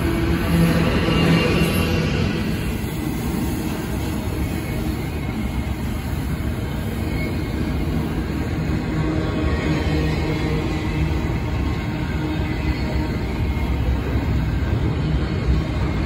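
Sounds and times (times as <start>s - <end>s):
train wheels rolling on rail: 0.0s - 16.0s.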